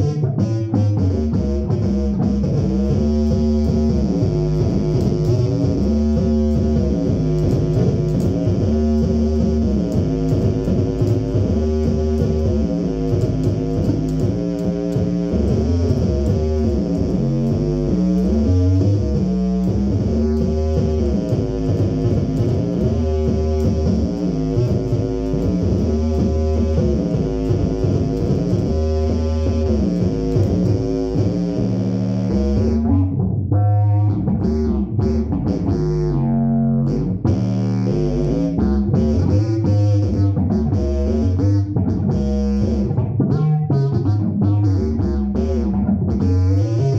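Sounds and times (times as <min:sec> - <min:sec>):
fretless electric bass sliding notes: 0:00.0 - 0:46.9.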